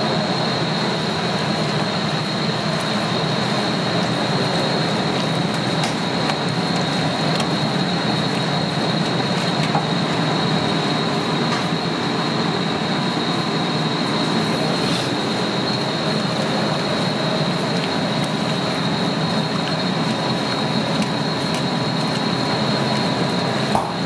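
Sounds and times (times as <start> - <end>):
constant high whine: 0.0 - 24.0
kitchen equipment running: 0.0 - 24.0.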